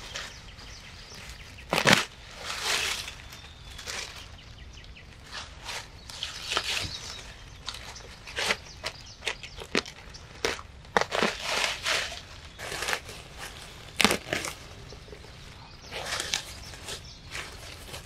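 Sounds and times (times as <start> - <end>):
leaves and stems rustling: 0.0 - 18.0
roots tearing from soil: 0.0 - 18.0.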